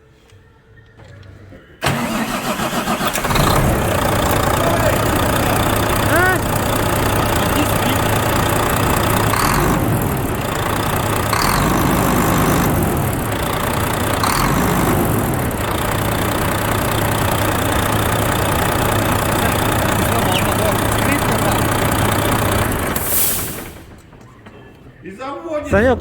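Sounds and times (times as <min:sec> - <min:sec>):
diesel engine idling: 0:01.8 - 0:25.0.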